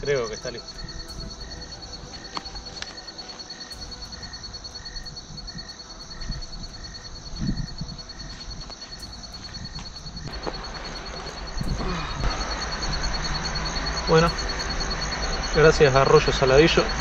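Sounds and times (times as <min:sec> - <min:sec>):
insects trilling: 0:00.0 - 0:17.0
low insect chirp: 0:00.0 - 0:17.0.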